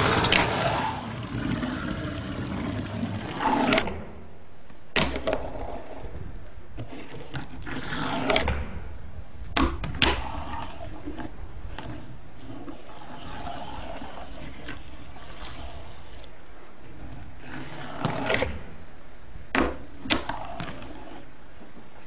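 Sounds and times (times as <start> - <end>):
fingerboard wheels rolling: 0.0 - 22.0.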